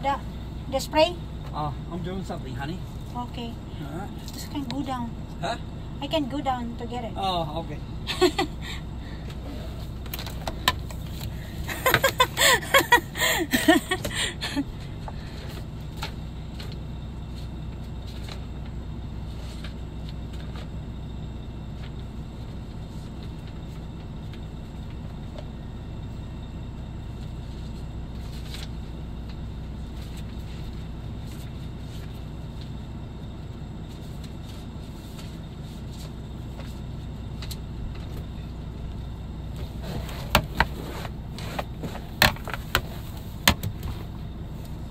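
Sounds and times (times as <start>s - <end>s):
truck cab hum: 0.0s - 44.9s.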